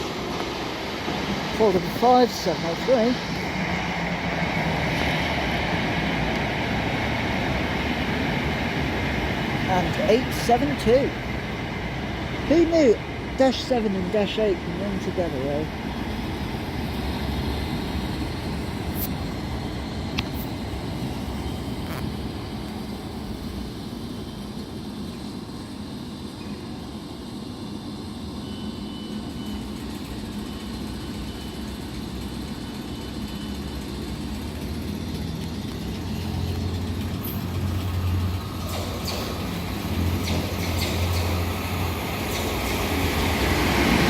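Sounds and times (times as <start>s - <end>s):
electric train rumbling: 0.0s - 44.0s.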